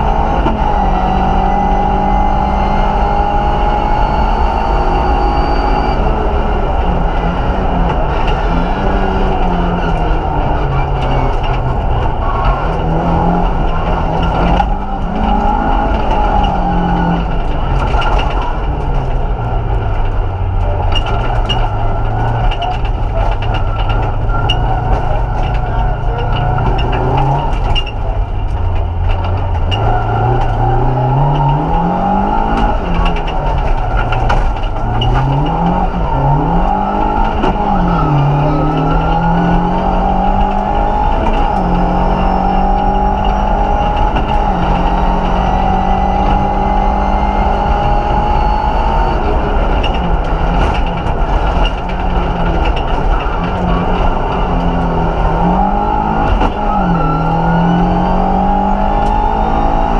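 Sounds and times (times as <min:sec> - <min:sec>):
rally car engine revving: 0:00.0 - 0:59.9
road noise: 0:00.0 - 0:59.9.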